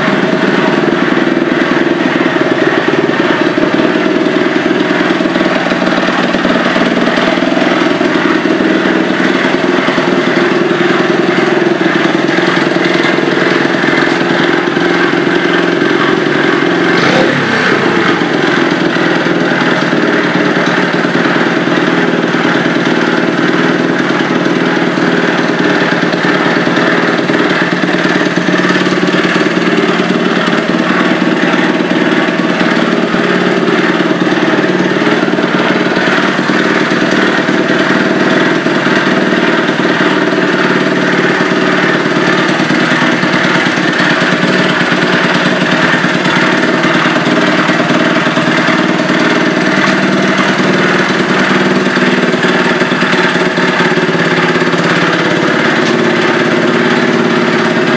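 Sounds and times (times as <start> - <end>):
small engine idling: 0.0 - 57.9.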